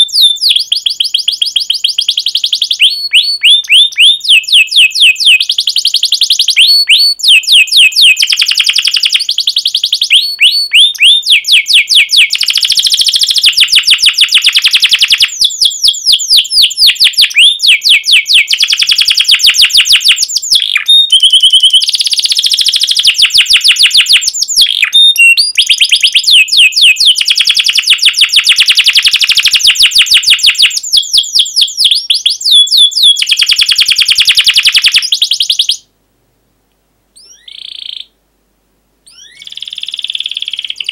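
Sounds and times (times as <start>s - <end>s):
canary singing trills and chirps: 0.0s - 35.9s, 37.2s - 38.2s, 39.1s - 40.9s.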